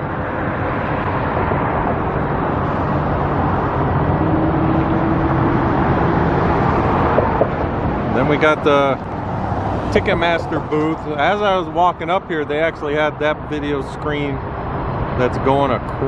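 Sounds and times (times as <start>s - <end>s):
road traffic passing: 0.0s - 16.0s
vehicle engine hum: 0.0s - 16.0s.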